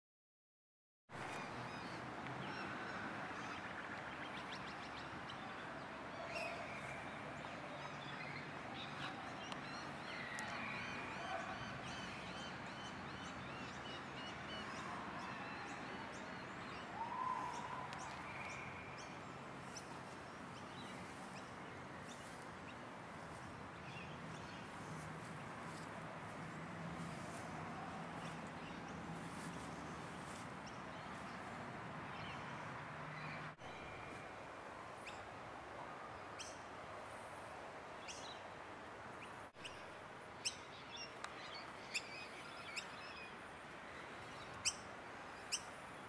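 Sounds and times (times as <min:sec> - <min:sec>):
steady background noise: 0:01.2 - 0:46.0.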